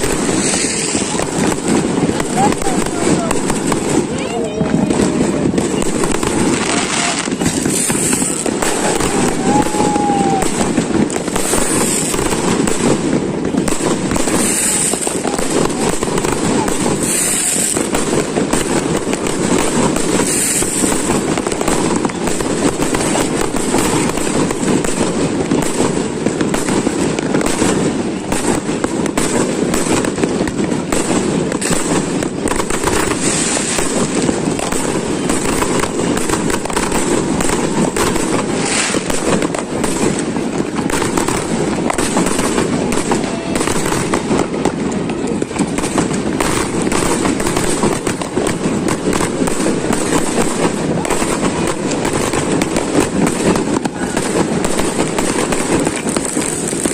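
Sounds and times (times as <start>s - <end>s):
fireworks crackling: 0.0s - 56.9s
fireworks hissing: 0.0s - 56.9s.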